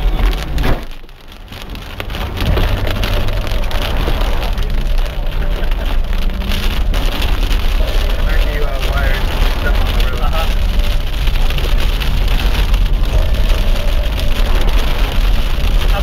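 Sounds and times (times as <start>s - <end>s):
rain hitting vehicle windshield: 0.0s - 16.0s
vehicle driving on gravel: 0.0s - 16.0s.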